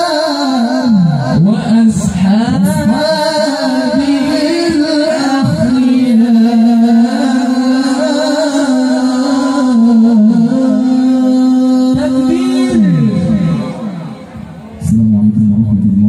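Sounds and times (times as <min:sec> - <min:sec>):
man reciting melodically into microphone: 0:00.0 - 0:16.0.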